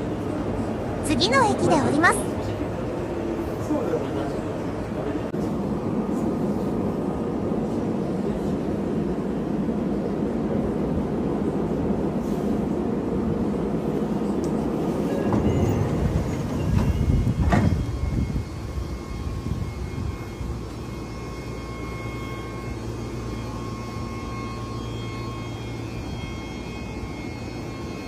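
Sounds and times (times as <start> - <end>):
quiet train hum: 0.0 - 28.0
train running gear rumble: 0.0 - 28.0.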